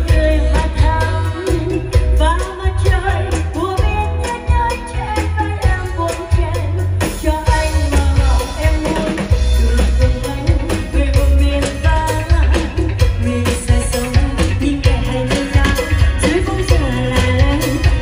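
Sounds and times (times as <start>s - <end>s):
live band playing: 0.0s - 18.0s
woman singing into a microphone: 0.0s - 18.0s.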